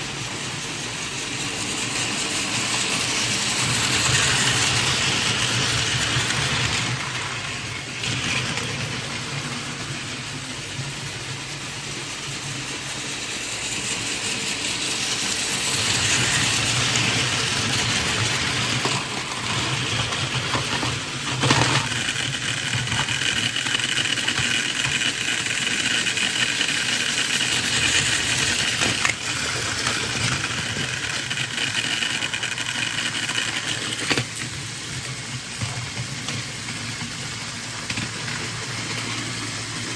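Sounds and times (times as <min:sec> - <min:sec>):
toy train motor whirring: 0:00.0 - 0:10.4, 0:11.7 - 0:39.9
toy wheels rattling on track: 0:01.2 - 0:09.6, 0:13.1 - 0:39.9.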